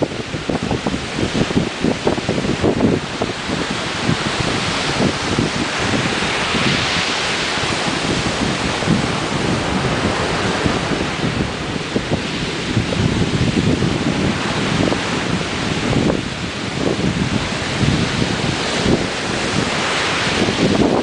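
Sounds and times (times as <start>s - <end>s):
ocean surf breaking on shore: 0.0s - 21.0s
wind buffeting microphone: 0.0s - 21.0s.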